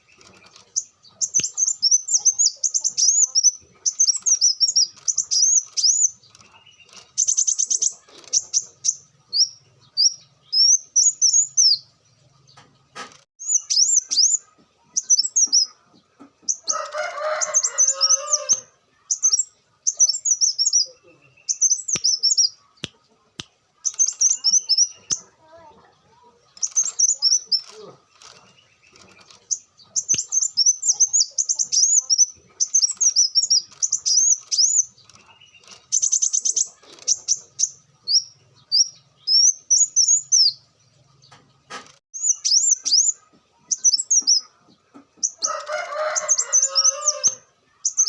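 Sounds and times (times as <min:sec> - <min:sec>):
bird chattering song: 0:00.0 - 0:48.0.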